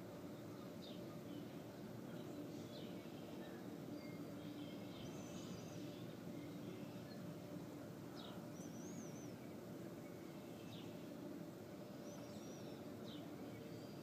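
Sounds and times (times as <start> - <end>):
birds chirping: 0.3 - 11.2, 11.9 - 14.0.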